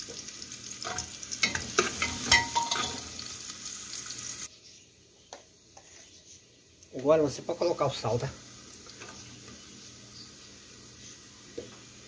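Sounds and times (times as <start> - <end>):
onion and garlic sizzling: 0.0 - 12.0.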